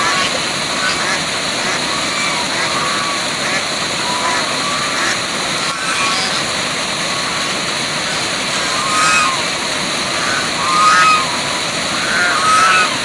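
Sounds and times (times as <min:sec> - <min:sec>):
short pitched calls: 0:00.0 - 0:13.0
waterfall rushing: 0:00.0 - 0:13.0.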